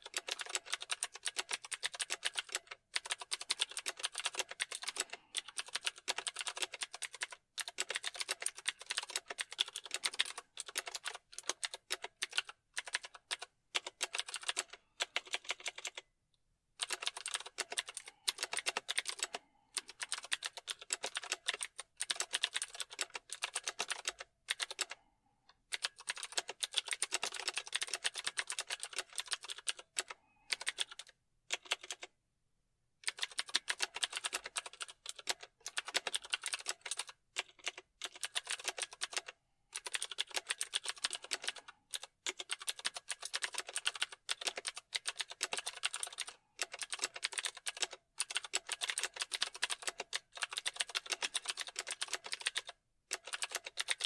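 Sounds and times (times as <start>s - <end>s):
fast typing on a keyboard: 0.0s - 16.0s, 16.8s - 25.1s, 25.7s - 32.1s, 33.0s - 54.0s.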